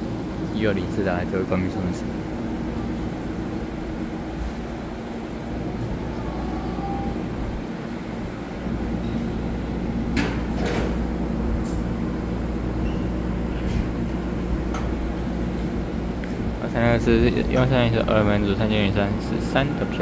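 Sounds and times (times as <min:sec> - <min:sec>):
electric train hum: 0:00.0 - 0:20.0.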